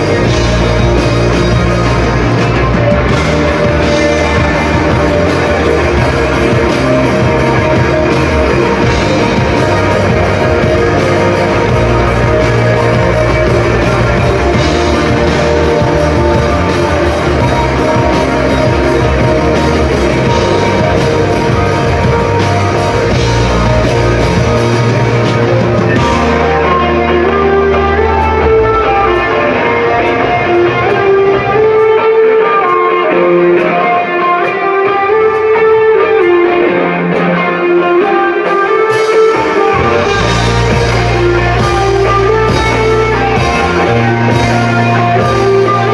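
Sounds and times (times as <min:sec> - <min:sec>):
electric guitars melodic line: 0:00.0 - 0:45.9
rock band playing live: 0:00.0 - 0:45.9.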